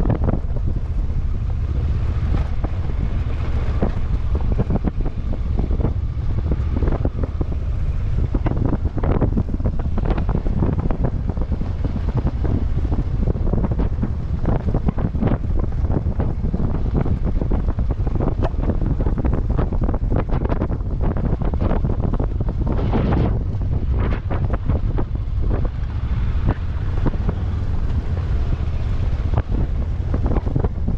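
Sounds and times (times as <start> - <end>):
constant low rumble: 0.0 - 30.9
wind buffeting microphone: 0.0 - 30.9.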